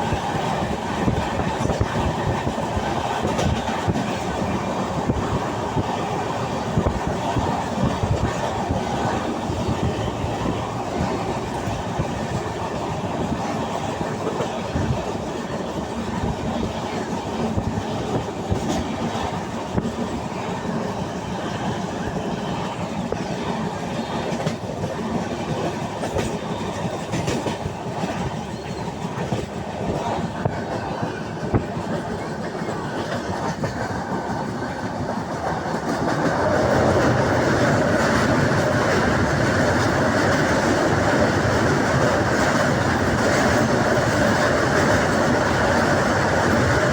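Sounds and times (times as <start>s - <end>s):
train coach rattling: 0.0s - 46.9s
train wheels rumbling on rail: 0.0s - 46.9s
wheels clickety-clack over joints: 0.0s - 46.9s.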